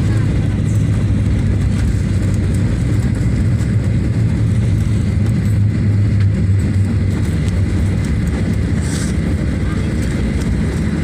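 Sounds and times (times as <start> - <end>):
airplane rumble on runway: 0.0 - 11.0.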